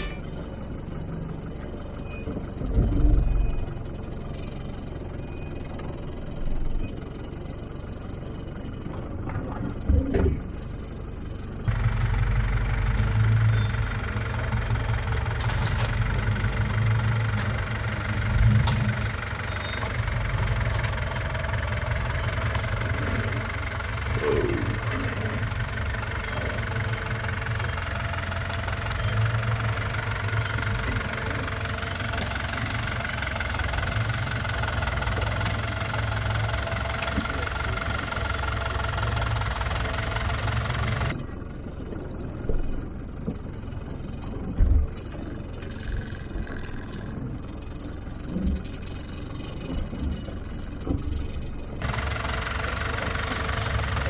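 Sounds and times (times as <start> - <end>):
truck engine at low revs: 0.0 - 54.0.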